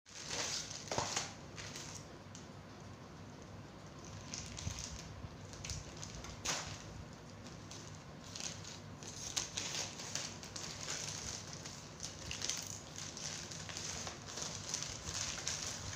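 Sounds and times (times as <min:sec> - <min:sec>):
plastic bag crinkling: 0:00.1 - 0:02.1, 0:03.9 - 0:15.9.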